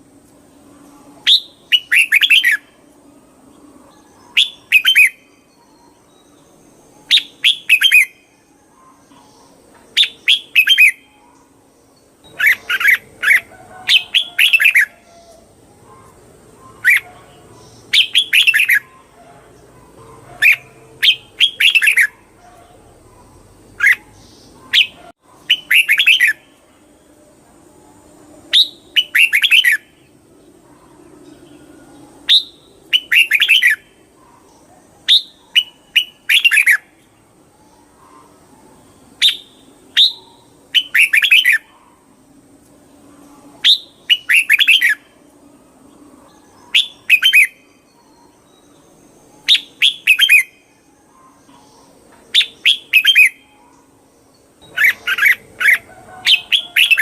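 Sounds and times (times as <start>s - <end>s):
bird warbling song: 0.6s - 27.0s, 28.5s - 42.2s, 42.8s - 57.0s.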